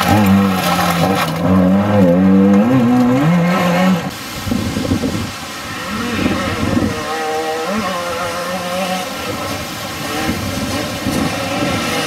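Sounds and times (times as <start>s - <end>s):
rally car engine revving: 0.0s - 4.2s, 4.8s - 12.0s
rough noise: 0.0s - 12.0s.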